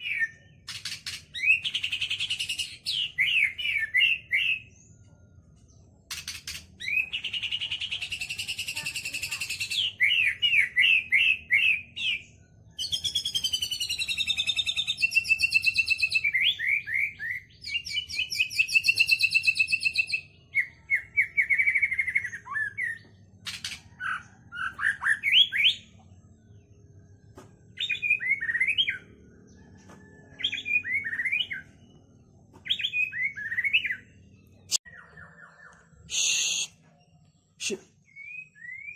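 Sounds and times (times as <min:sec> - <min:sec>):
songbird singing varied song: 0:00.0 - 0:05.9, 0:06.7 - 0:38.9.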